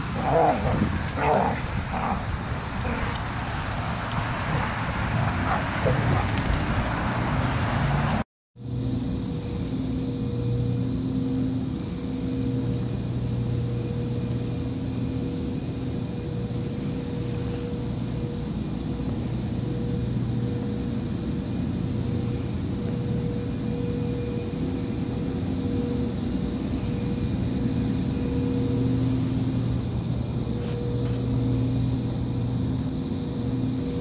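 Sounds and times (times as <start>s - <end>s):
constant tones: 0.0s - 7.4s, 8.1s - 34.0s
low mechanical hum: 0.0s - 34.0s.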